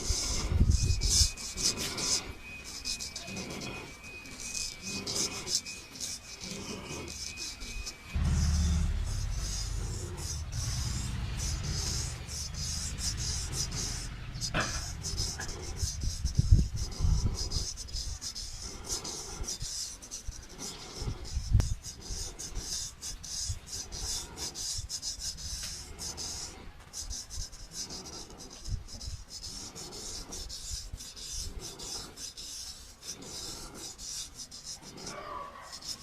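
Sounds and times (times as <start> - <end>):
razor scraping stubble: 0.0 - 36.0.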